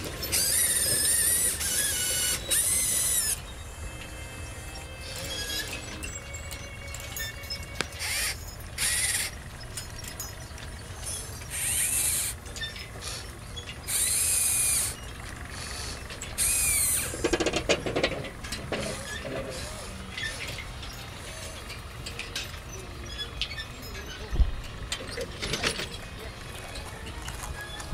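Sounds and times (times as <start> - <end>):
model excavator motors whining: 0.0 - 27.9
small clicks and rattles: 5.4 - 27.9.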